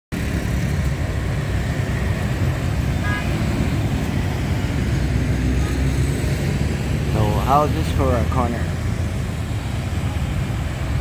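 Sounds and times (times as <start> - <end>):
motorbike traffic rumble: 0.1 - 11.0.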